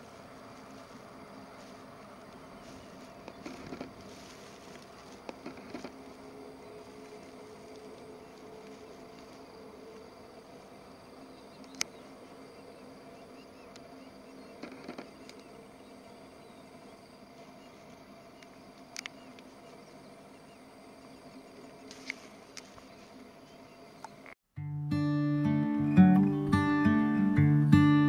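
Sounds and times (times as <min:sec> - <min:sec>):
insects buzzing: 0:00.0 - 0:24.4.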